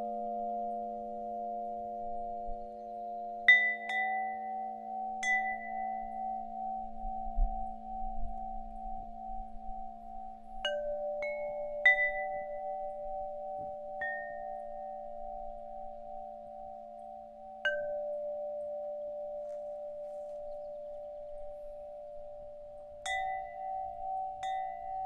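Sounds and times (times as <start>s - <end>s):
singing bowls ringing: 0.0s - 25.0s.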